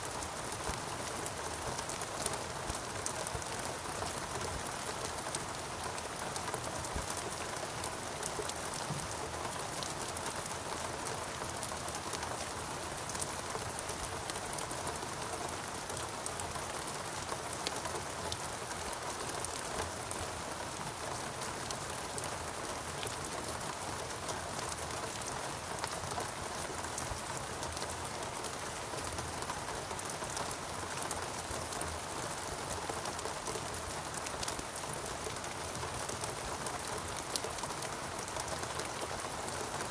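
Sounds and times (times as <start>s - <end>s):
steady rain falling: 0.0s - 39.9s
raindrops ticking on leaves: 0.1s - 39.9s.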